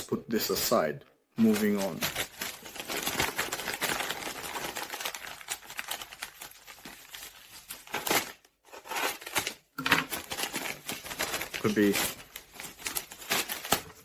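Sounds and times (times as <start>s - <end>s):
packaging crackling and rustling: 1.4s - 14.0s.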